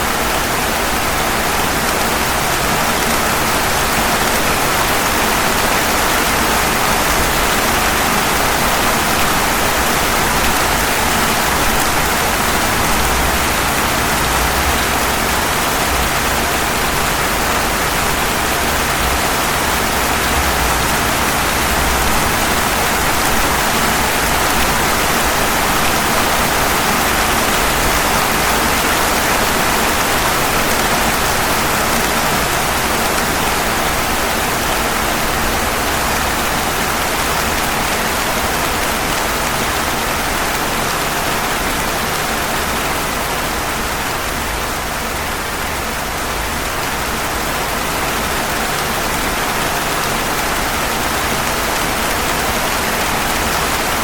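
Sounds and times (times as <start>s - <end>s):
rain falling on pavement: 0.0s - 54.0s.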